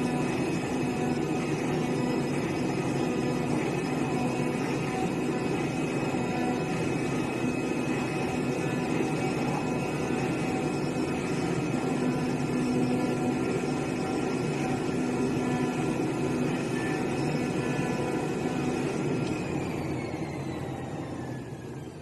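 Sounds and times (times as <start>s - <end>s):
cutting machine whining: 0.0s - 21.9s.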